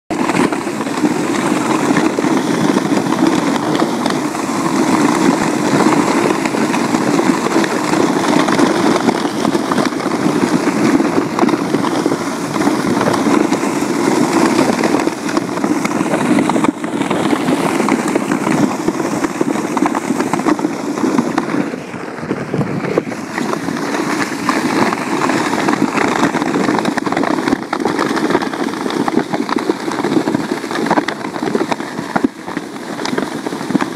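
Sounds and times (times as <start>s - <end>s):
wheels crunching on icy gravel: 0.1s - 33.9s.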